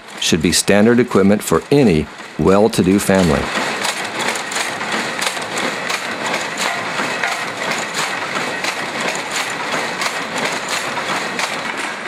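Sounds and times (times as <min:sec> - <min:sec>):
power looms clattering: 0:00.0 - 0:12.0.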